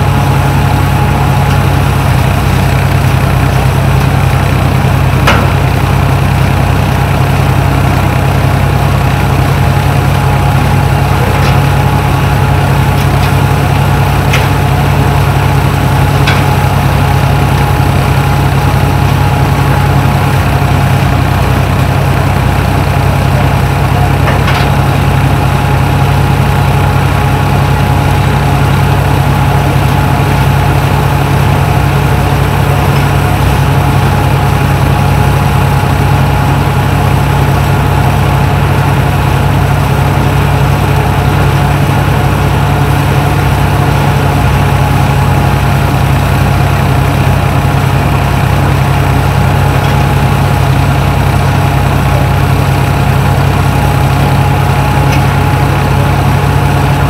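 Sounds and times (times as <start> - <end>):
low engine drone: 0.0 - 57.0
threshing machine hum: 0.0 - 57.0.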